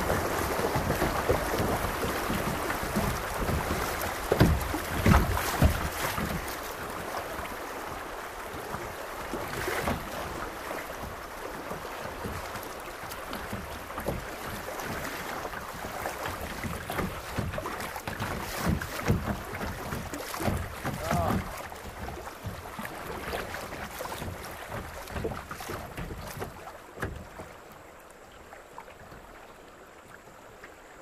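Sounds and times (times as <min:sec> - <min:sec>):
water rushing and splashing: 0:00.0 - 0:31.0.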